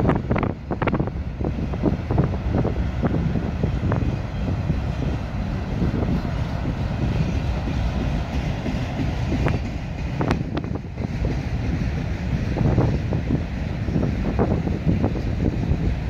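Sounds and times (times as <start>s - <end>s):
train wheels rumbling on rails: 0.0s - 16.0s
wind on microphone: 0.0s - 16.0s.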